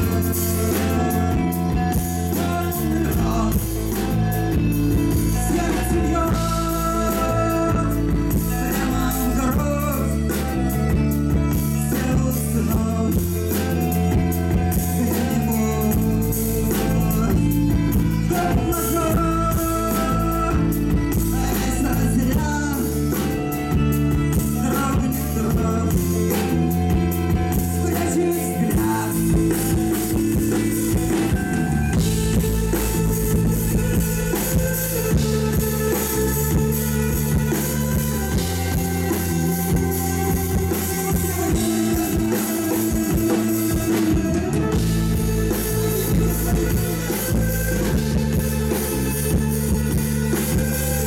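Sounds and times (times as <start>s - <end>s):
drum kit: 0.0s - 51.0s
electric guitars: 0.0s - 51.0s
violin: 0.0s - 51.0s.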